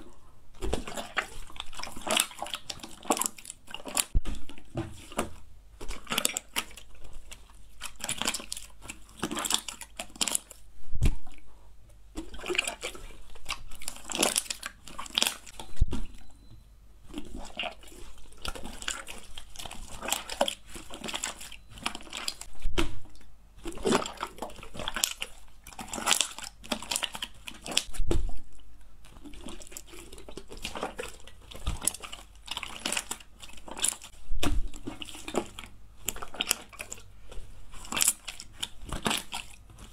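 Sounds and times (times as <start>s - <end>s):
slime squelching and clicking: 0.0s - 39.9s.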